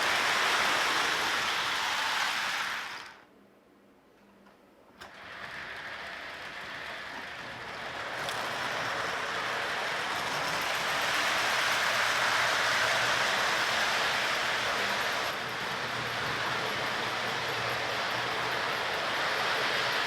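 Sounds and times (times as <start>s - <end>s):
model train rattling on track: 0.0s - 3.2s, 5.0s - 20.0s.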